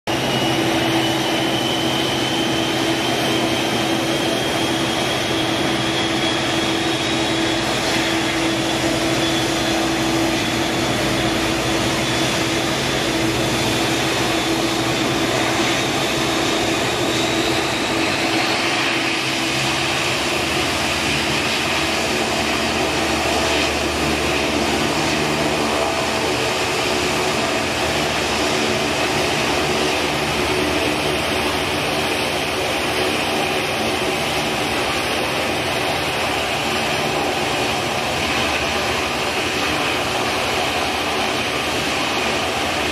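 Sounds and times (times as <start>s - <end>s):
turboprop engines whining: 0.0s - 42.9s.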